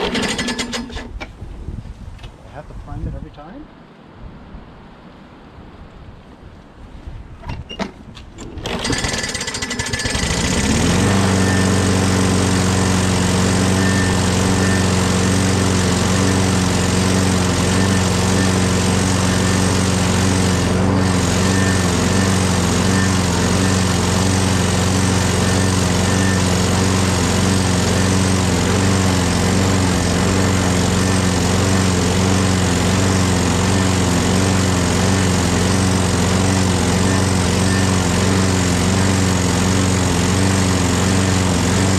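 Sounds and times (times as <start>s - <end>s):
lawnmower engine starting: 0.0s - 1.4s, 7.7s - 41.9s.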